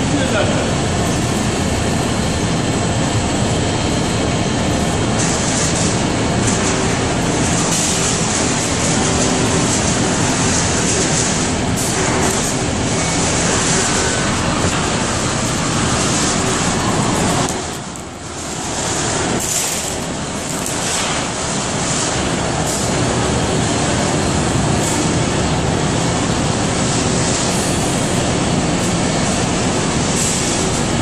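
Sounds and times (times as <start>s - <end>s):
boiler plant mechanical rumble: 0.0s - 31.0s.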